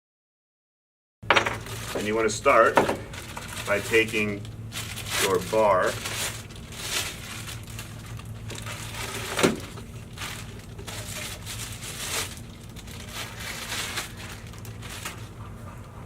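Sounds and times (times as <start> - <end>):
crinkling and rustling: 1.3 - 16.0.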